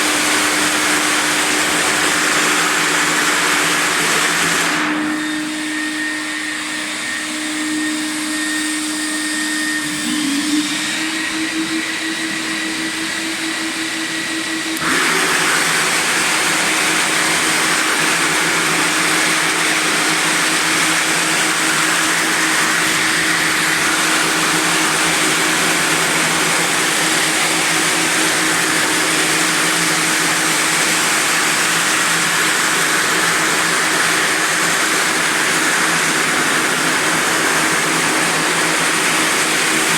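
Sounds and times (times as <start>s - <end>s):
floor sanding machine grinding: 0.0s - 39.9s.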